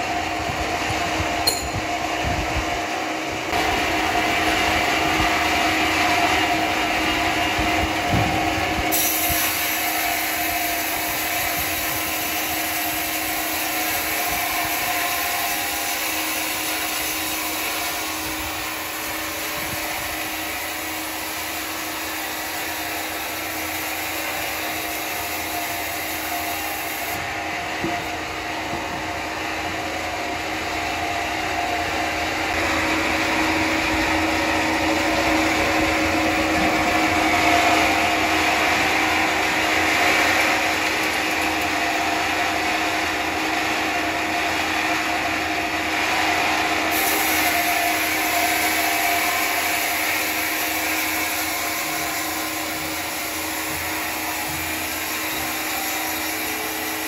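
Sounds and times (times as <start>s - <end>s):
band sawmill whining: 0.0s - 57.0s.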